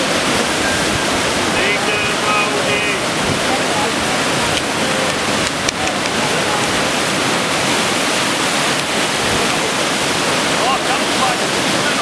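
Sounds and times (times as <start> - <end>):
white water rushing: 0.0 - 12.0.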